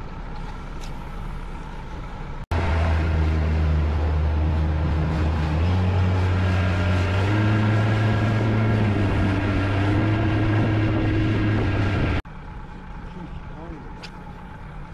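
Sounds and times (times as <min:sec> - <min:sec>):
boat engine humming: 0:00.0 - 0:14.9.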